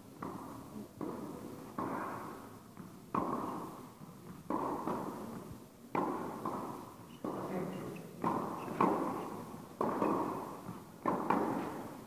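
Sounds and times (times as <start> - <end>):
ball bouncing on court: 0.1 - 12.0
racket striking tennis ball: 0.1 - 12.0.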